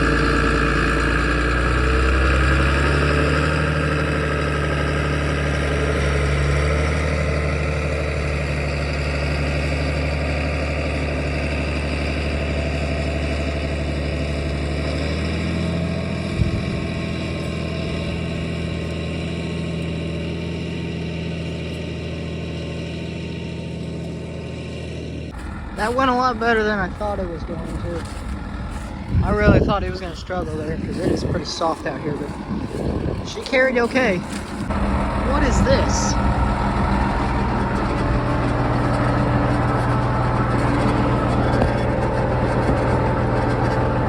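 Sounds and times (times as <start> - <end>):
farm vehicle engine under load: 0.0 - 44.0.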